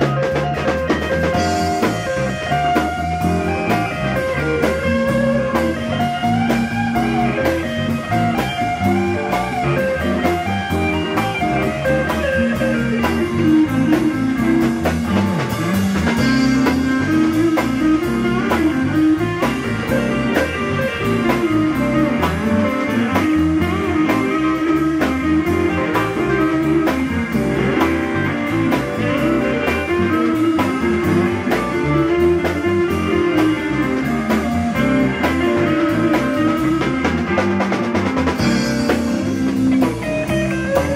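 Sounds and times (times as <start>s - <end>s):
drum kit beat: 0.0s - 40.9s
electric guitar lead: 0.0s - 40.9s.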